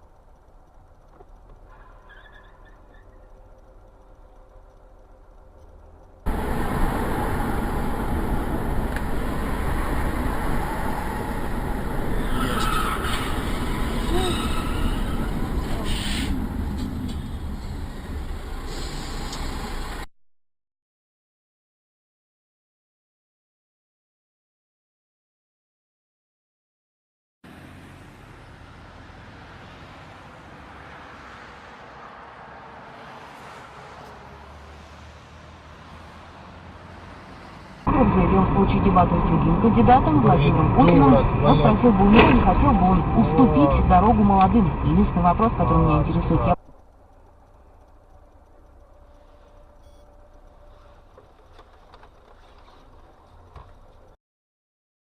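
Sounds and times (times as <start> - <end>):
moving car engine and road noise: 0.0 - 20.1, 27.4 - 54.2.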